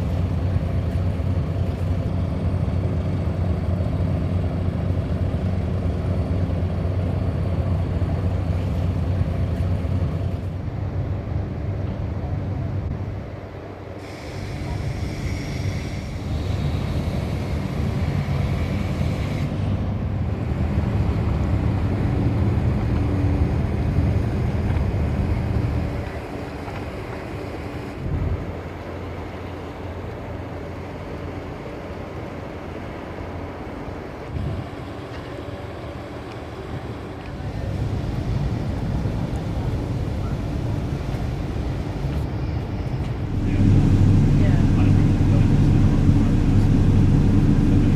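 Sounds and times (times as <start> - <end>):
ferry engine drone: 0.0 - 47.9.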